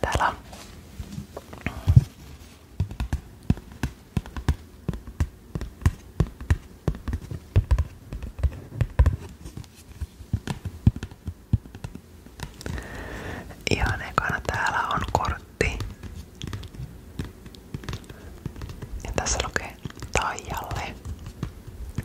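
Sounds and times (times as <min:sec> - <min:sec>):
fingernails tapping a card: 0:02.8 - 0:13.0, 0:13.8 - 0:22.0.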